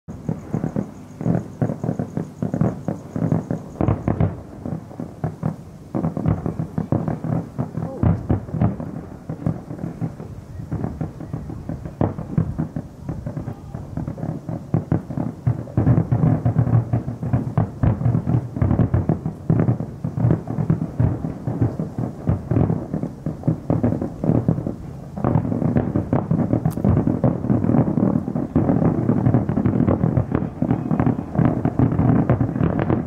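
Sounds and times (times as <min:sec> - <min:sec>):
fireworks booms and crackles: 0:00.1 - 0:33.0.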